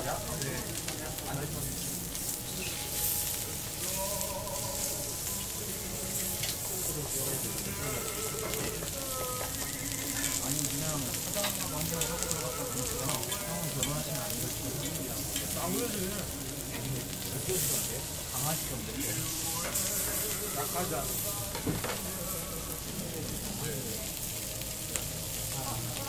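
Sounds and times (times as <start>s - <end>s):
meat sizzling on a grill: 0.0s - 26.0s.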